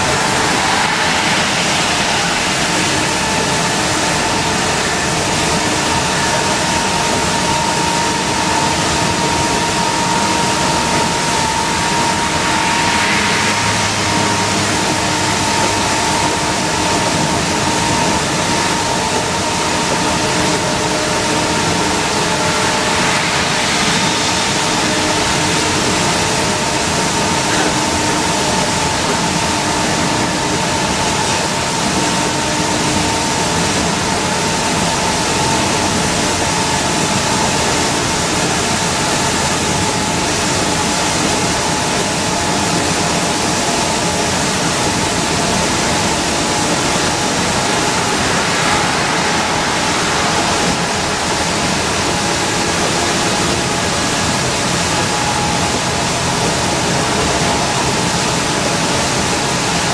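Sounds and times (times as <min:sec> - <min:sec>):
bus drivetrain drone: 0:00.0 - 0:59.9
faint steady whine: 0:00.0 - 0:59.9
tyres hissing on wet road: 0:00.0 - 0:59.9.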